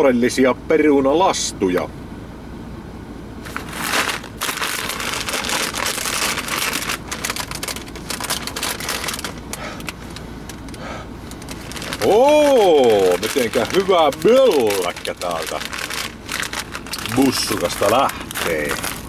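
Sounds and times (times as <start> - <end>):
crisp packet crinkling: 3.5 - 19.0.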